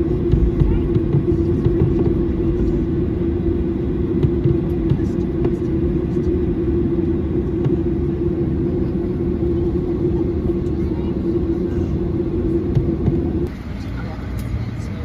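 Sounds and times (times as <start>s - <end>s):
jet engine hum: 0.0s - 15.0s
wheels rumbling on taxiway: 0.0s - 15.0s.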